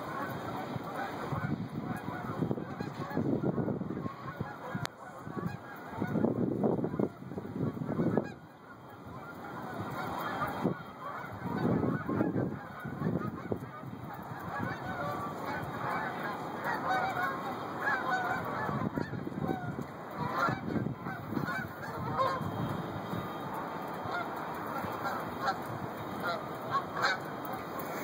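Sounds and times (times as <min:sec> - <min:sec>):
geese honking: 0:00.0 - 0:28.0.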